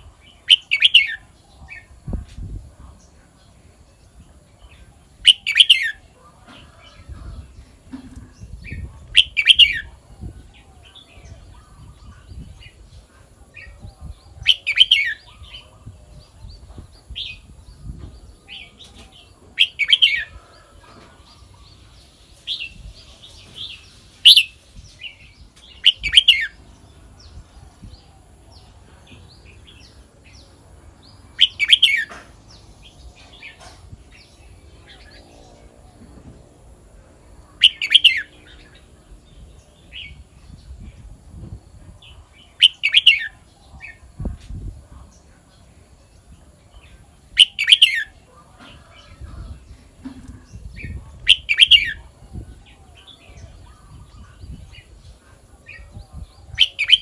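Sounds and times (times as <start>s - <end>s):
bird singing clear phrases: 0.0s - 57.0s.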